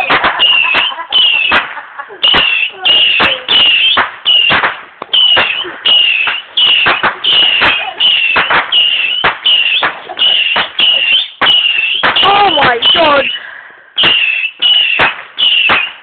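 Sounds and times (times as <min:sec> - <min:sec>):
firework cracks: 0:00.0 - 0:13.4, 0:14.0 - 0:16.0
firework whistles: 0:00.0 - 0:13.4, 0:14.0 - 0:16.0.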